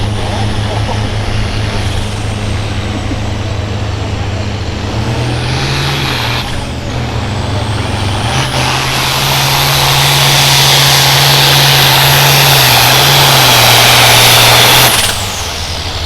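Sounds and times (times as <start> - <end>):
diesel tractor engine at full throttle: 0.0 - 16.0
high turbo whistle: 0.0 - 16.0.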